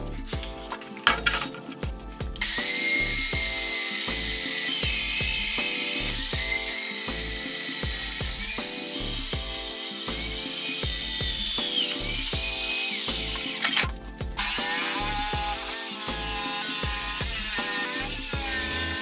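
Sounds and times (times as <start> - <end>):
background music with steady beat: 0.0 - 19.0
drill cutting into steel: 2.4 - 19.0.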